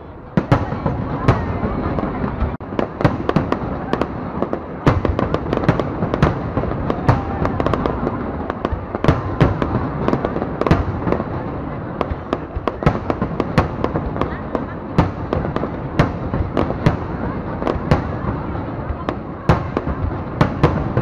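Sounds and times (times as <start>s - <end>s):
firework bursts and crackling: 0.0s - 21.0s.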